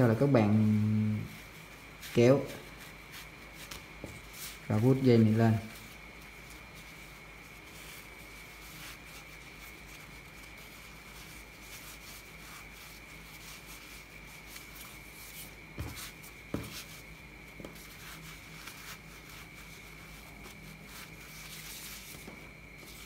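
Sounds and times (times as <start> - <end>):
fabric rustling and rubbing: 0.0 - 23.0
faint high hum: 0.0 - 23.0.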